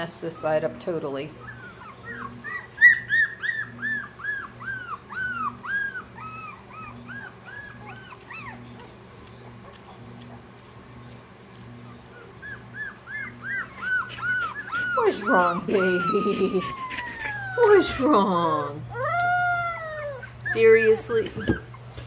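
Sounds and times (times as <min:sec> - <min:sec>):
puppies whining: 0:00.0 - 0:22.0.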